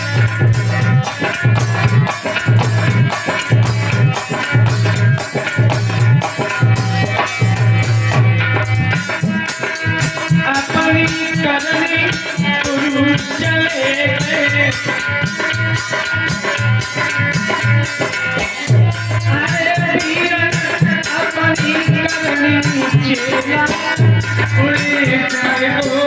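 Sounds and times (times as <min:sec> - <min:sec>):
drum beats: 0:00.0 - 0:26.0.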